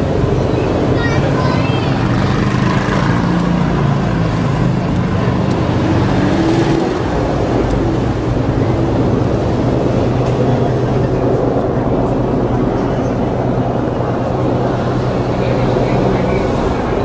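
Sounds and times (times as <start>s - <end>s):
traffic: 0.0s - 17.0s
vehicle engine low hum: 0.0s - 17.0s.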